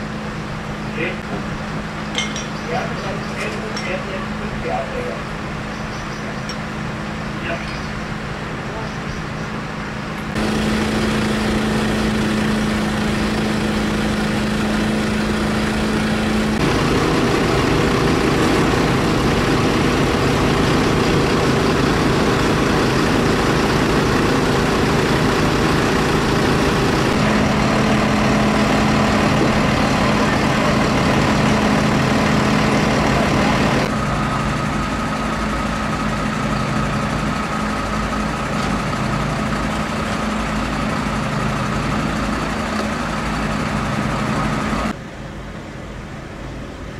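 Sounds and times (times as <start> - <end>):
diesel engines idling: 0.0 - 46.9.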